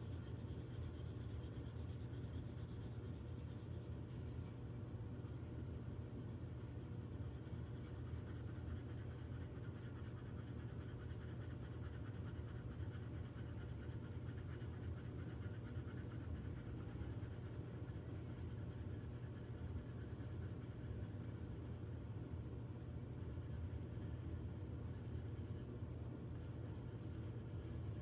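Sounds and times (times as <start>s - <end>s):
pencil scratching on paper: 0.0s - 4.4s, 6.4s - 22.0s, 23.1s - 28.0s
steady low hum: 0.0s - 28.0s.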